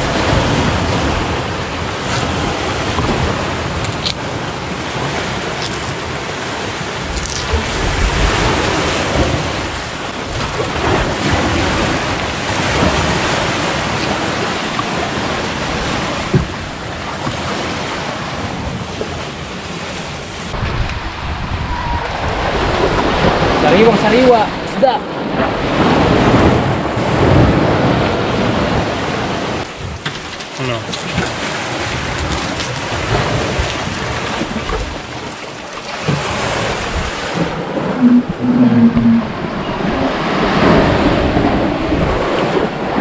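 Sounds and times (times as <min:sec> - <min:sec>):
wind buffeting microphone: 0:00.0 - 0:19.1, 0:20.5 - 0:30.1, 0:36.0 - 0:43.0
sea surf washing in: 0:00.0 - 0:43.0.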